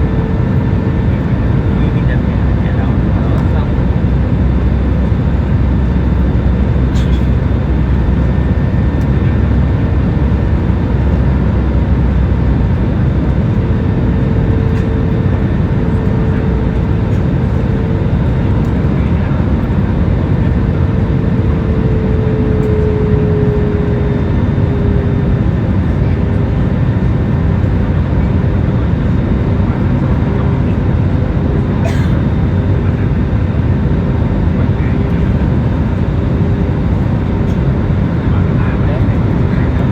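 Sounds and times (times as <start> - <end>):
airliner engines and airflow drone: 0.0 - 39.9.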